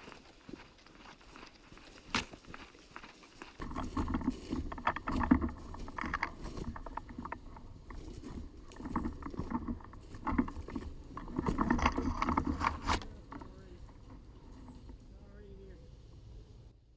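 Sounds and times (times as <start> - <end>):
footsteps through brush and leaves: 0.0 - 15.0.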